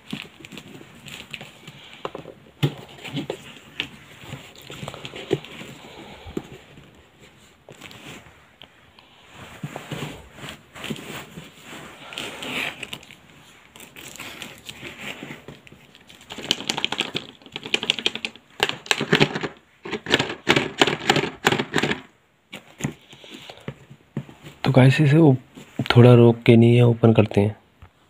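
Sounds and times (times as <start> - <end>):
packaging rustling and crackling: 0.0 - 8.3, 9.5 - 24.7.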